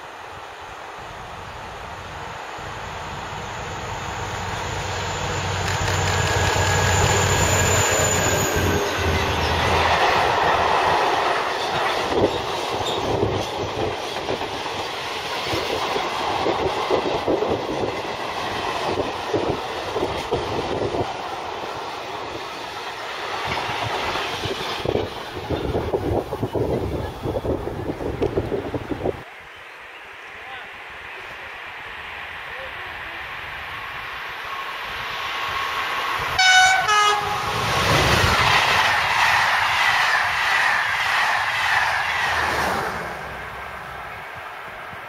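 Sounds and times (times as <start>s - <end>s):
locomotive hum and whine: 0.0s - 29.2s, 30.7s - 45.0s.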